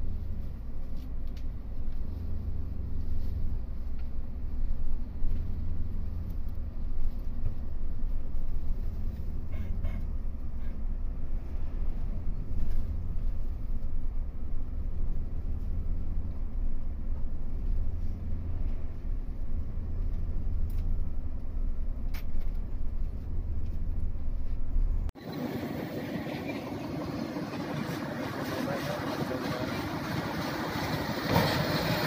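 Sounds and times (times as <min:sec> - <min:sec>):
bus engine rumble: 0:00.0 - 0:32.0.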